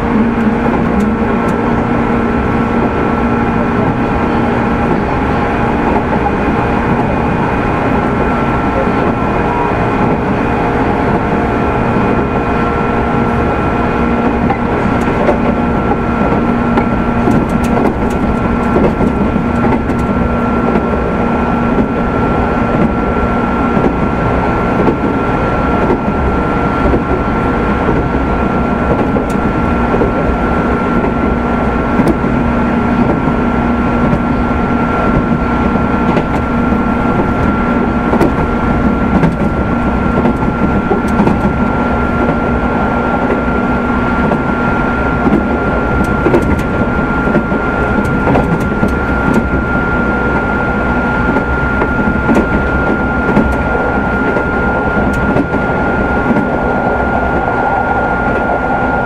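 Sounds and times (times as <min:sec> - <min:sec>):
electric train motor whine: 0:00.0 - 0:59.0
rail noise: 0:00.0 - 0:59.0.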